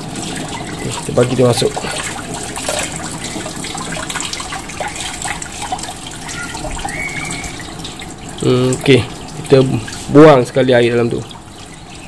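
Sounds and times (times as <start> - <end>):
hose water running: 0.0 - 12.0.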